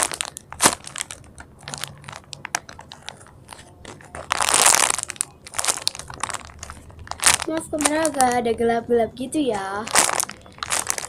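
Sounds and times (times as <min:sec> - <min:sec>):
plastic wrapping crinkling: 0:00.0 - 0:08.8, 0:09.5 - 0:11.0.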